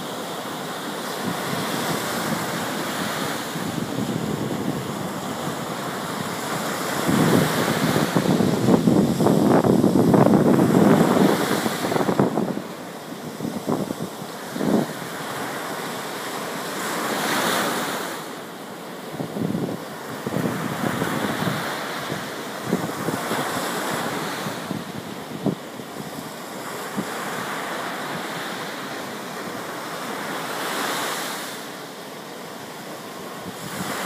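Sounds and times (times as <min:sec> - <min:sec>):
waves breaking on a beach: 0:00.0 - 0:34.0.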